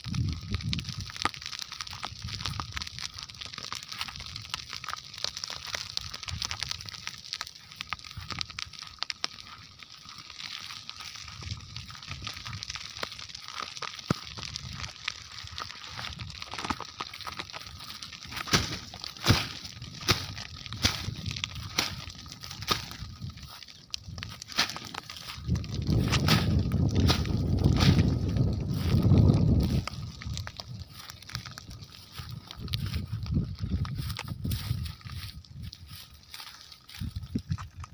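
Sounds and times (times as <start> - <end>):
dry grass crackling in fire: 0.0 - 37.9.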